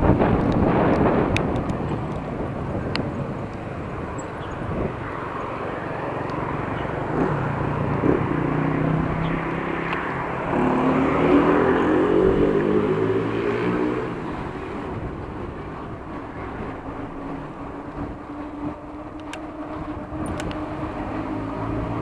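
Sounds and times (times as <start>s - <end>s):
bicycle rolling noise: 0.0s - 22.0s
vehicle engine hum: 0.0s - 22.0s
wind on microphone: 0.0s - 22.0s.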